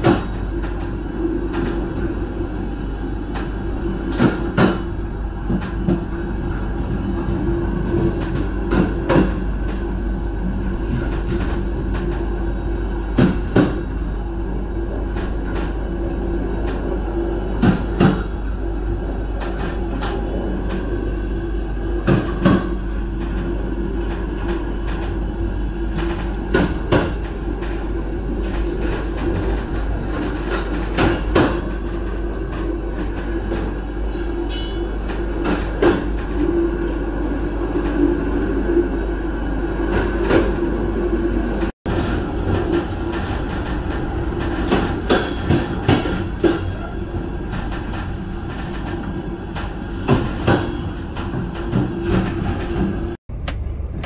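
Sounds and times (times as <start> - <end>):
train wheels clicking on rail joints: 0.0 - 21.1, 21.7 - 38.5, 41.6 - 53.7
train rumbling: 0.0 - 54.0.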